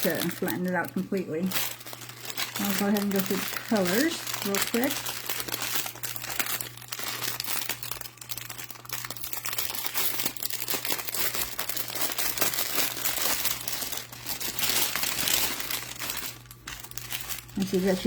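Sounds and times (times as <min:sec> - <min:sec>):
plastic packets crinkling: 0:00.0 - 0:18.0.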